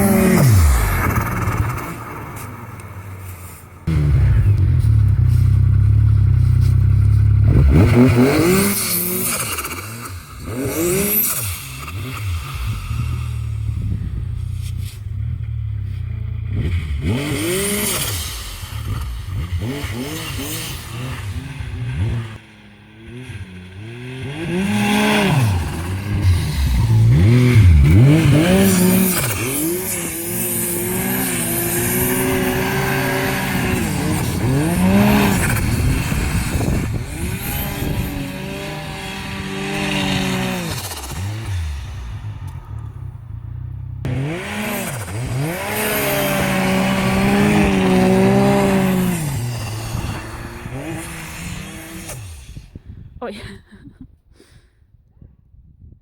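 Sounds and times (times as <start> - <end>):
snowmobile engine revving: 0.0 - 43.0, 44.0 - 53.6.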